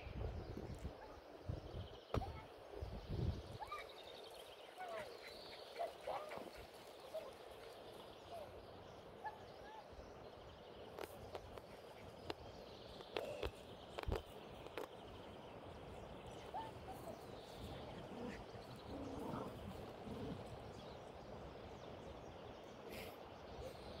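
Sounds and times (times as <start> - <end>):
faint outdoor ambience: 0.0 - 24.0.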